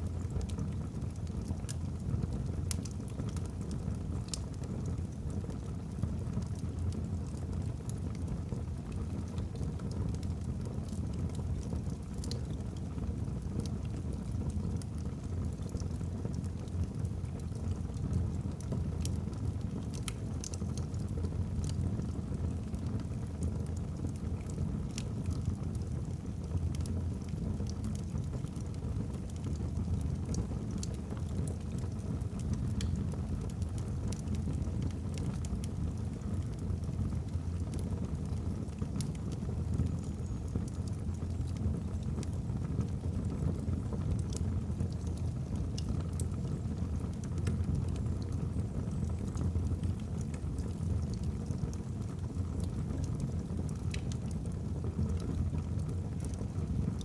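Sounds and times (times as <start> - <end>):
burning logs crackling and popping: 0.0 - 57.0
low rumble of fire: 0.0 - 57.0.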